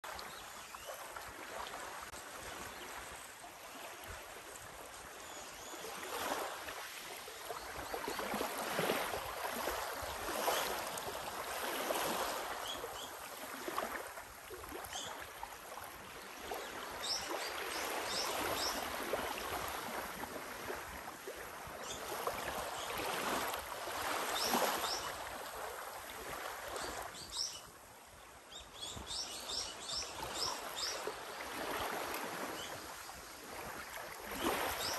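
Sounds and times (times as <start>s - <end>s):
small waves lapping on beach: 0.0s - 34.9s.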